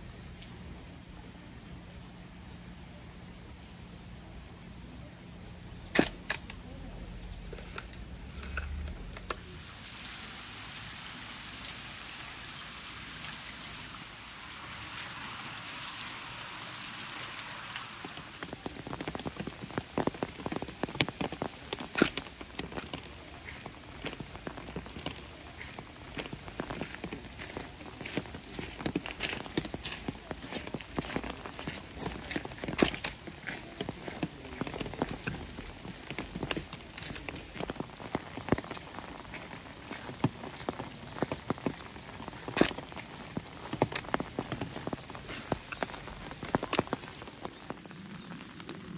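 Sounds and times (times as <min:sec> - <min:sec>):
rain falling on trees: 0:00.0 - 0:48.9.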